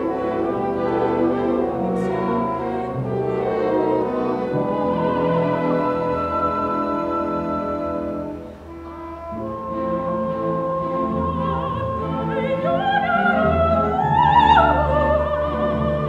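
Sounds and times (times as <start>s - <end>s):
soprano singing with vibrato: 0.0s - 8.6s, 9.2s - 16.0s
orchestra sustained strings: 0.0s - 16.0s.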